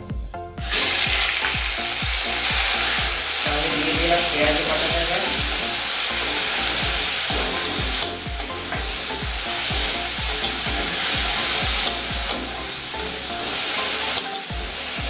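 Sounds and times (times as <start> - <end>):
background music with steady beat: 0.0 - 15.0
paste sizzling in hot oil: 0.6 - 15.0.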